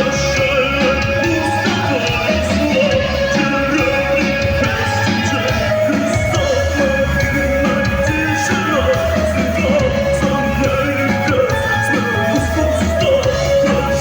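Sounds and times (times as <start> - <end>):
person singing: 0.0 - 14.0
rock band playing live: 0.0 - 14.0.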